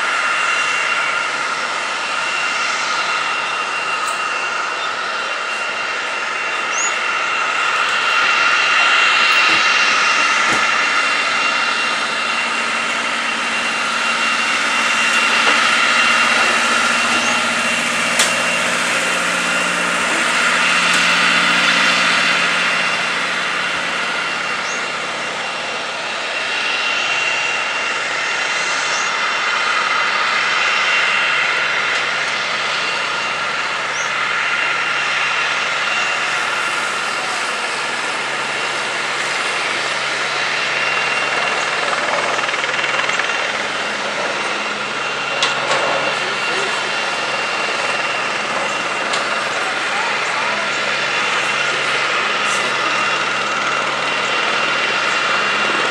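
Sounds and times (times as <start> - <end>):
helicopter turbine whine: 0.0 - 55.9
main rotor rush: 0.0 - 55.9.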